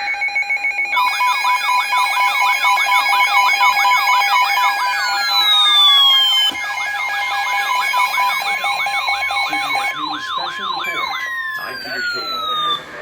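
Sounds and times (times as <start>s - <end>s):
electronic siren alert tones: 0.0s - 13.0s.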